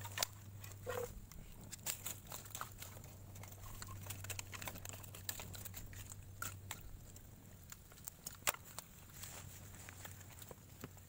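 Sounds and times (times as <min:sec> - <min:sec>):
campfire crackling and popping: 0:00.0 - 0:09.3.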